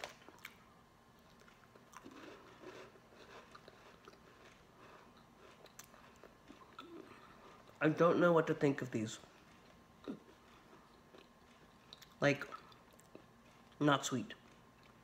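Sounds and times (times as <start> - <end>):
cookie crunching and chewing: 0.0 - 15.0.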